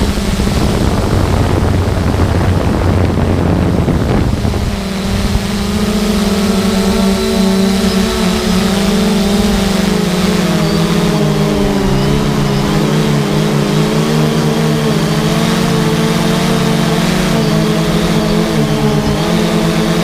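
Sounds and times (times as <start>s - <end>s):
drone propellers whirring: 0.0s - 20.0s.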